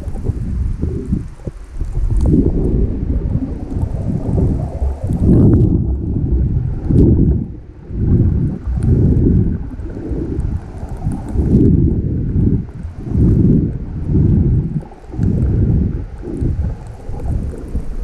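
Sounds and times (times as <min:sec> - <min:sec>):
muffled underwater water rumbling: 0:00.0 - 0:18.0.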